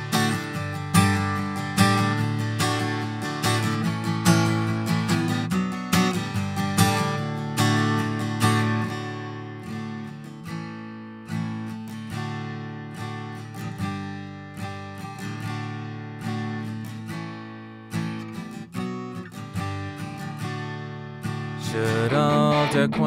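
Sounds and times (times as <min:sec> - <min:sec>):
acoustic guitar strummed slowly: 0:00.0 - 0:23.0.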